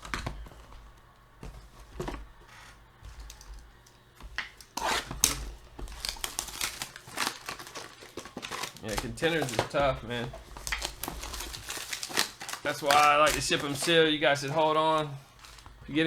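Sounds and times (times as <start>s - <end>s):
plastic wrapping crinkling and tearing: 0.0s - 16.0s.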